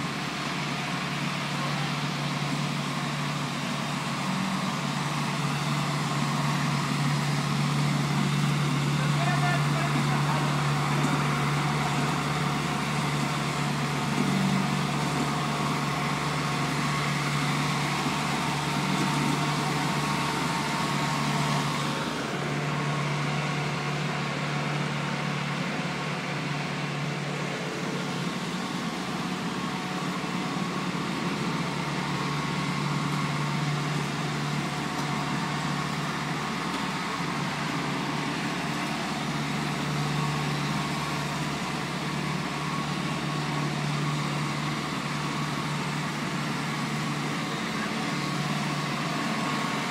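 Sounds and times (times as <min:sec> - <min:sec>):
paving machine engine humming: 0:00.0 - 0:49.9.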